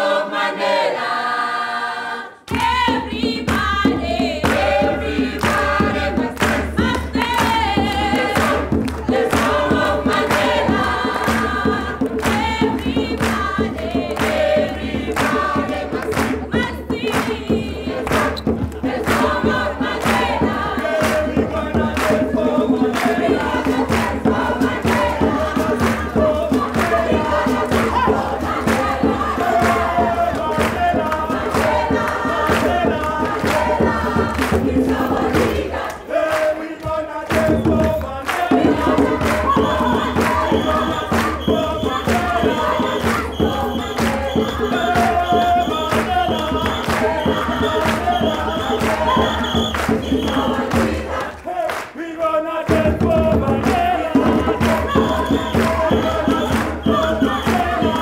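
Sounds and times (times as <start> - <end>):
youth choir singing: 0.0 - 58.0.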